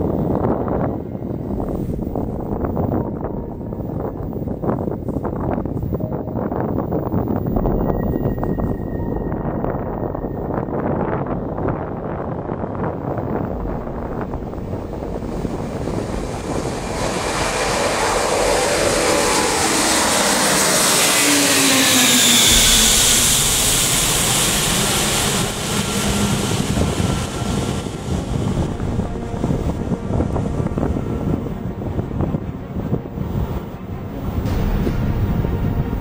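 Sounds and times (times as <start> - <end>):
jet aircraft passing by: 0.0 - 36.0.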